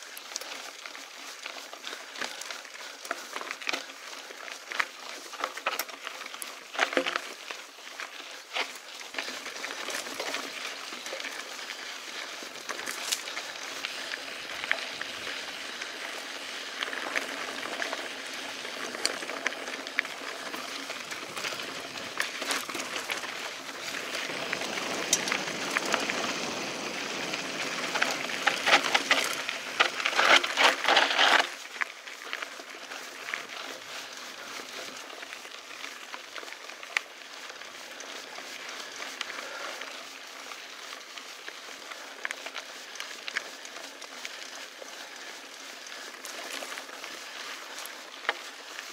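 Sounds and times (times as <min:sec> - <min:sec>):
bike tyres crunching over gravel: 0:00.0 - 0:48.9.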